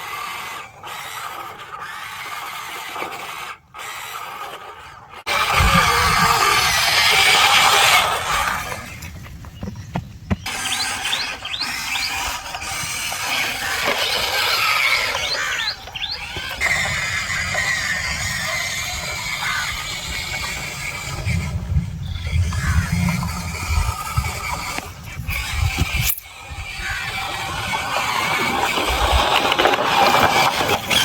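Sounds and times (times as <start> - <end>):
model motors and gears whirring: 0.0 - 31.0.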